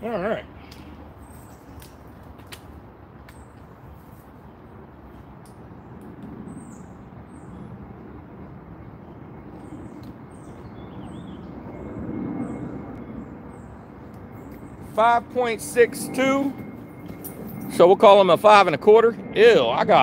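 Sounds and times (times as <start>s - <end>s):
distant vehicle traffic rumble: 0.0s - 20.0s.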